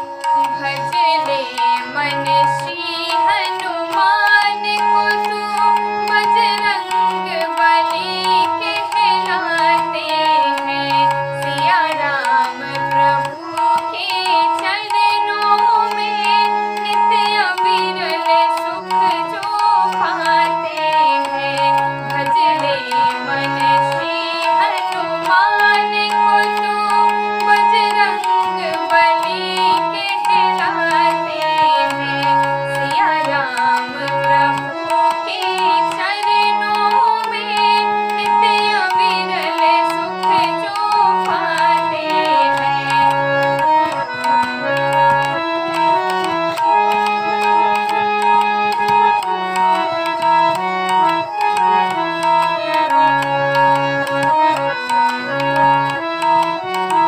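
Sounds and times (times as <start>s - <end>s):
sustained keyboard chords: 0.0s - 57.0s
tabla rhythm: 0.0s - 57.0s.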